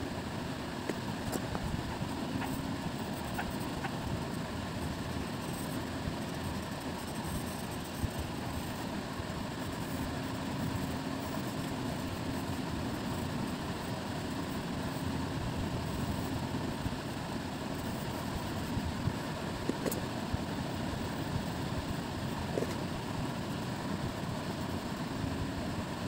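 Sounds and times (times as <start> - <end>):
faint hum: 0.0 - 26.0
low rumbling background noise: 0.0 - 26.0.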